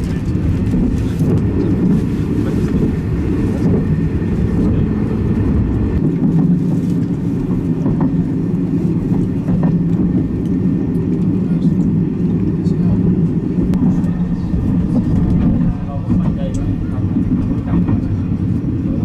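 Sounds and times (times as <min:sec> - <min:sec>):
train carriage rumble: 0:00.0 - 0:19.0.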